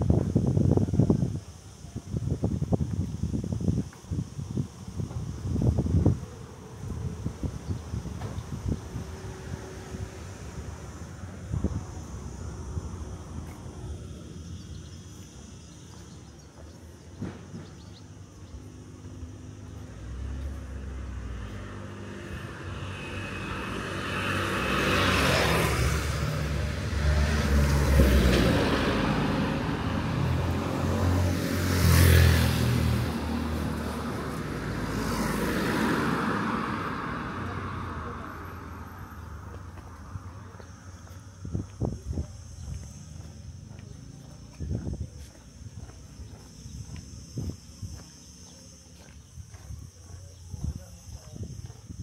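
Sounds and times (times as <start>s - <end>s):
vehicles driving past: 4.9s - 52.0s.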